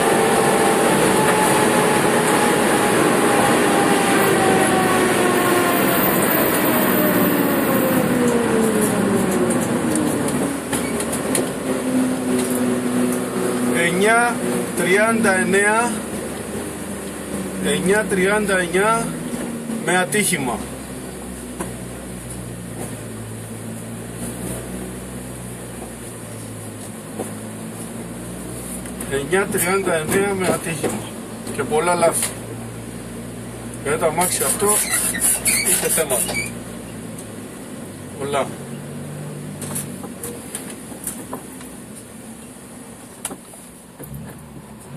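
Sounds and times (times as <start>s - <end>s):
car engine droning: 0.0s - 44.9s
road and wind noise: 0.0s - 44.9s.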